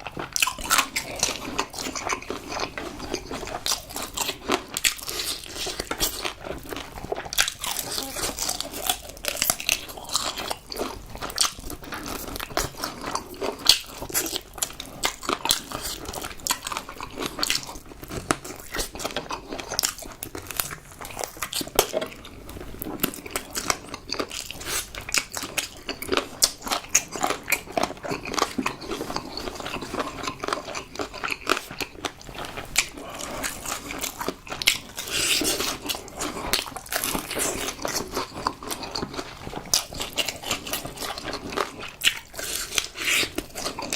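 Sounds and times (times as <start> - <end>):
crunchy chewing of fried chicken: 0.0 - 43.9.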